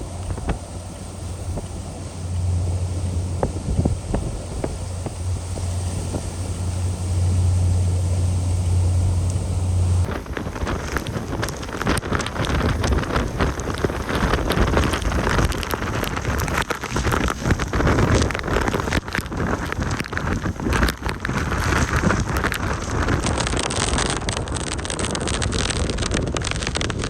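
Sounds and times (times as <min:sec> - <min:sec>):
gusting storm wind: 0:00.0 - 0:27.0
rain and spray spattering: 0:00.0 - 0:27.0
wind buffeting microphone: 0:00.0 - 0:27.0.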